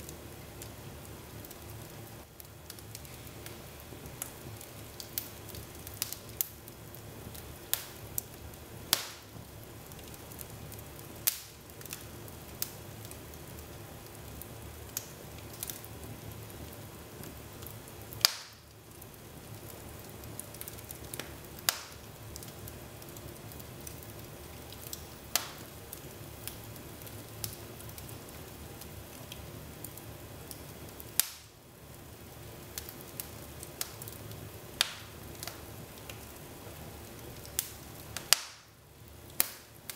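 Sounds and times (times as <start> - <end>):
low steady hiss: 0.0 - 39.9
wood fire crackling and popping: 0.0 - 39.9.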